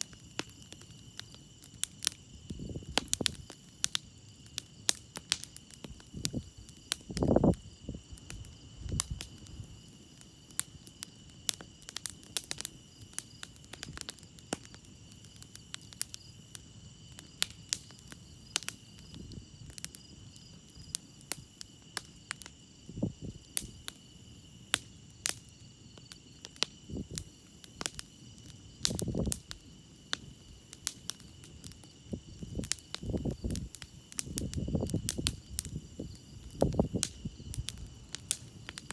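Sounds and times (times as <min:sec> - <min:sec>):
campfire crackling and popping: 0:00.0 - 0:38.9
crickets chirping: 0:00.0 - 0:38.9
fire hissing puffs: 0:00.0 - 0:38.9.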